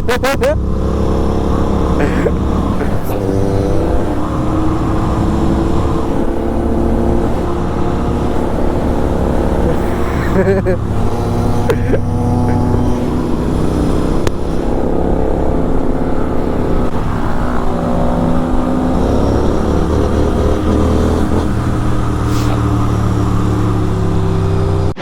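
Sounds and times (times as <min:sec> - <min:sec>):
motorcycle engine at speed: 0:00.2 - 0:25.0.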